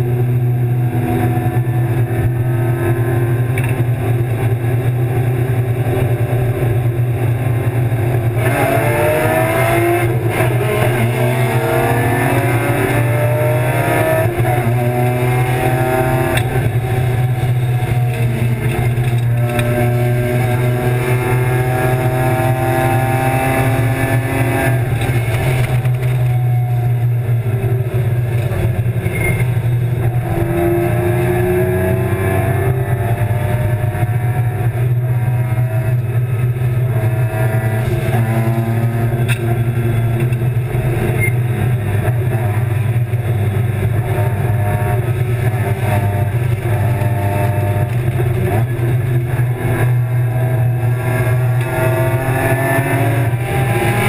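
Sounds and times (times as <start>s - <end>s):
cabin low drone: 0.0s - 54.0s
race car engine revving: 0.0s - 54.0s.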